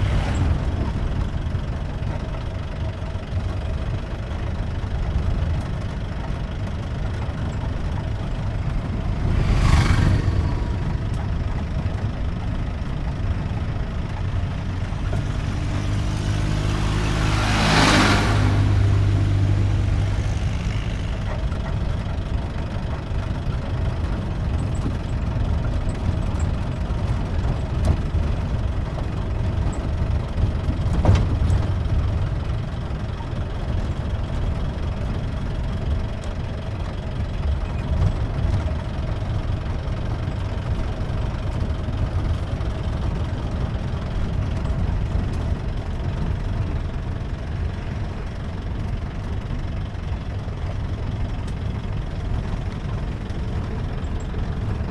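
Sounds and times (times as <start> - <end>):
jeep engine running: 0.0 - 54.9.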